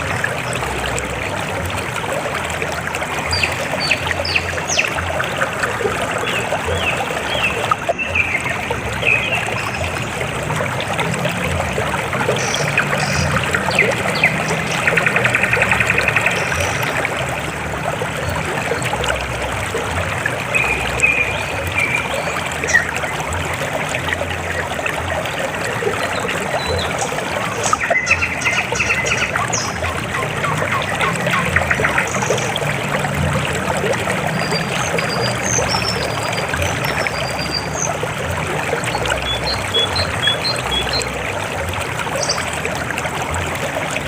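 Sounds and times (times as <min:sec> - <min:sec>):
river water babbling: 0:00.0 - 0:44.0.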